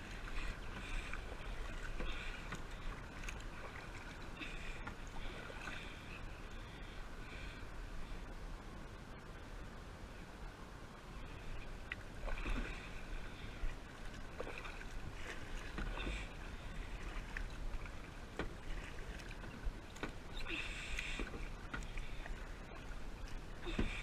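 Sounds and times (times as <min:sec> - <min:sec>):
kayak paddle splashing: 0:00.0 - 0:07.6, 0:11.5 - 0:24.0
steady low rumble: 0:00.0 - 0:24.0.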